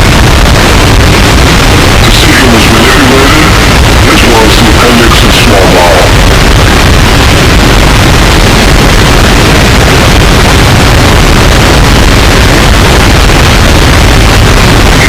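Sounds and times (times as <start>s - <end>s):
constant hiss: 0.0s - 15.0s
distorted harsh noise music: 0.0s - 15.0s
heavy low rumble: 0.0s - 15.0s.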